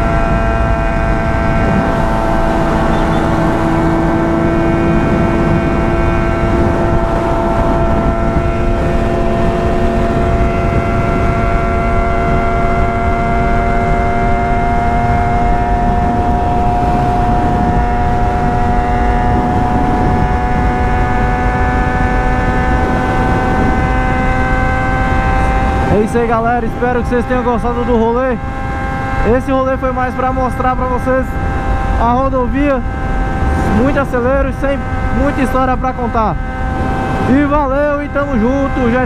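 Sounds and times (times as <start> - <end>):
motorcycle engine at highway speed: 0.0 - 39.0.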